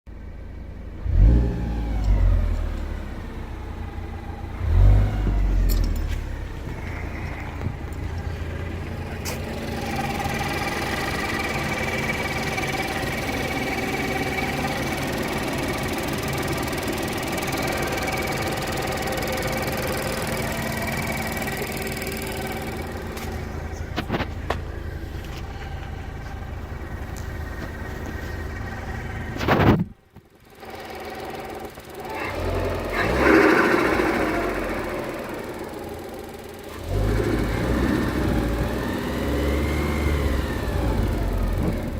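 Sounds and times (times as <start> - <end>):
car engine blipped: 0.1 - 41.9
whine rising with revs: 1.1 - 29.9, 30.6 - 41.9.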